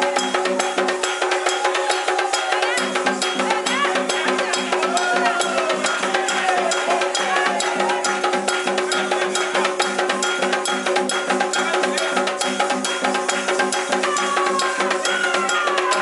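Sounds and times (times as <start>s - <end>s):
hand drums: 0.0s - 16.0s
metal bell beating: 0.0s - 16.0s
steady held tones: 0.0s - 16.0s.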